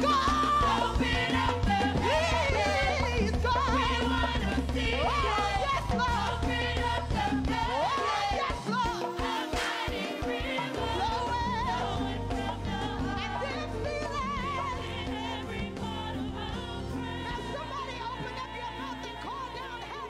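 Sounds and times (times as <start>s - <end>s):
instrumental backing with bass: 0.0s - 20.0s
women singing with vibrato: 0.0s - 20.0s.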